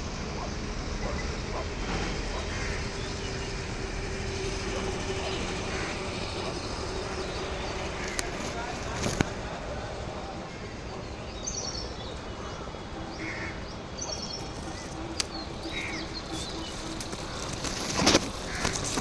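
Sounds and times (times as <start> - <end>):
outdoor background noise: 0.0 - 19.0
small birds chirping: 0.0 - 19.0.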